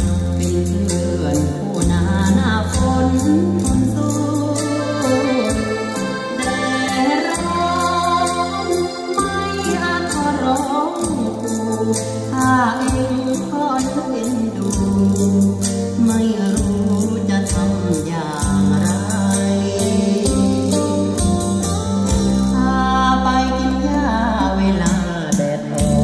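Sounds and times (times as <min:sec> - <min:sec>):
rattling percussion beat: 0:00.0 - 0:22.6, 0:24.9 - 0:26.0
bass line: 0:00.0 - 0:26.0
person singing: 0:00.0 - 0:26.0.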